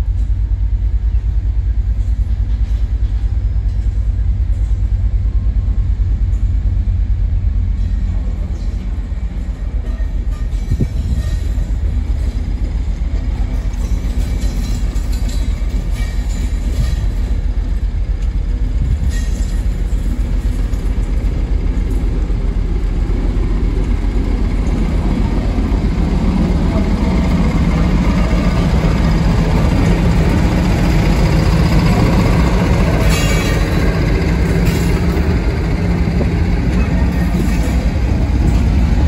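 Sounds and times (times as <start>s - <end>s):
diesel locomotive engine drone: 0.0s - 39.0s.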